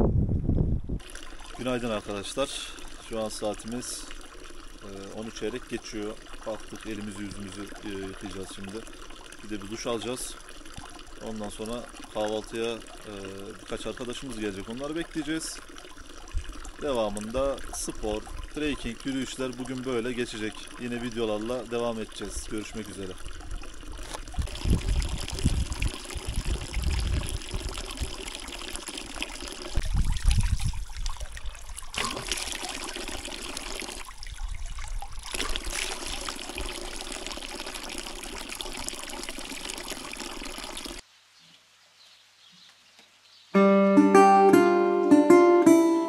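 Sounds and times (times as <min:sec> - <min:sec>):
water pouring and splashing: 0:01.0 - 0:41.1.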